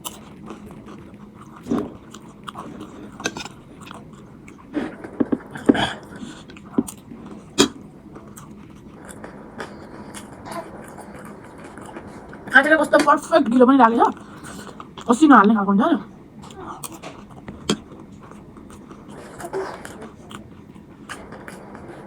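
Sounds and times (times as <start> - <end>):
person chewing crunchy snack: 0.0 - 12.5, 16.4 - 21.8.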